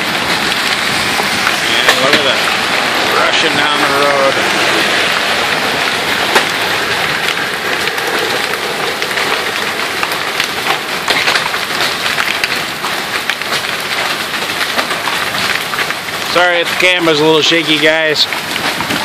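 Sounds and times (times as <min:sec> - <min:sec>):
hailstones clicking on hard surfaces: 0:00.0 - 0:19.0
heavy rain falling: 0:00.0 - 0:19.0.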